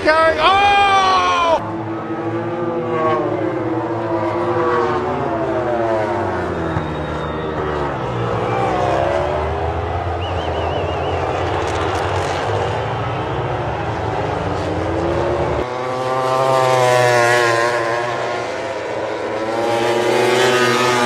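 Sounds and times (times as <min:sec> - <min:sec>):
racing motorcycles revving and passing: 0:00.0 - 0:21.0.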